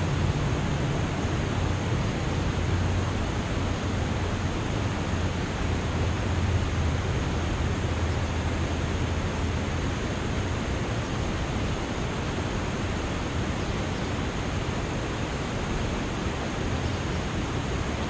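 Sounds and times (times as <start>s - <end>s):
river water rushing over dam: 0.0s - 18.0s.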